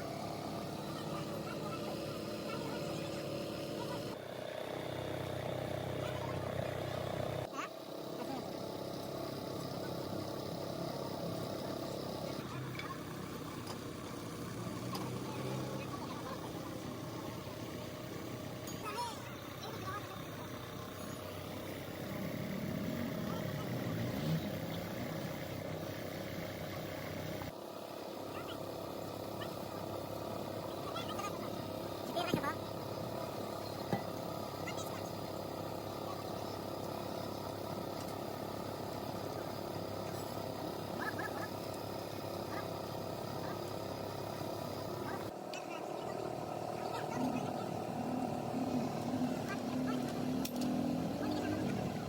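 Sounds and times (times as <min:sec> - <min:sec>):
machine running with even hum: 0:00.0 - 0:52.0.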